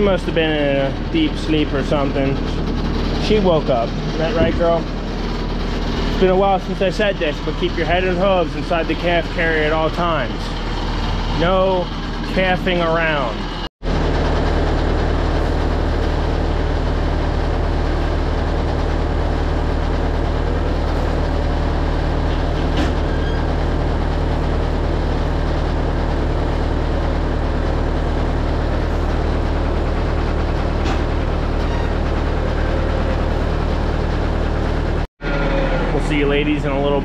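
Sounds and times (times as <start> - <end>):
loader engine idling: 0.0 - 37.0.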